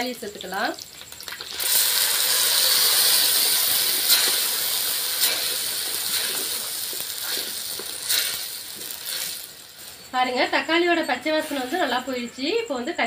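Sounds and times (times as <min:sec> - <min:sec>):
tomato puree sizzling in oil: 0:00.0 - 0:12.8.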